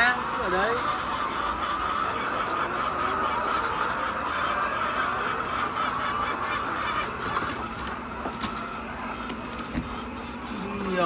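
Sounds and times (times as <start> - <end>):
hens clucking and squawking: 0.0 - 11.0.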